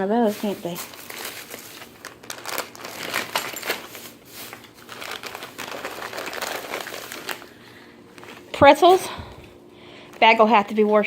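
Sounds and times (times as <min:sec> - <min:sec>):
plastic bags crinkling: 0:00.0 - 0:09.0.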